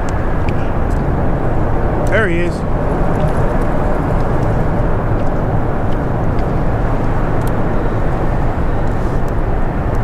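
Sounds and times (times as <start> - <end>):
roar of highway traffic: 0.0 - 10.0.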